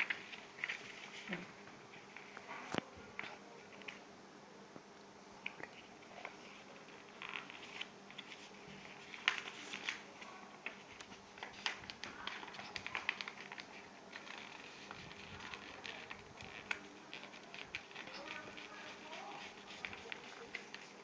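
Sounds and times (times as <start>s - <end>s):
paper rustling and crinkling: 0.0s - 4.0s, 6.0s - 21.0s.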